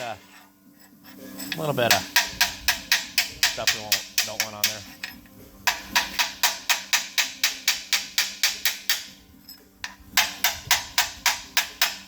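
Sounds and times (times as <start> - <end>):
hammer striking steel: 1.9 - 12.0.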